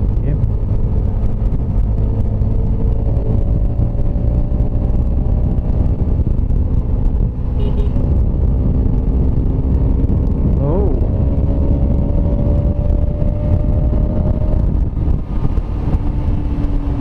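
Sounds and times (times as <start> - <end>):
motorcycle engine at highway speed: 0.0 - 17.0.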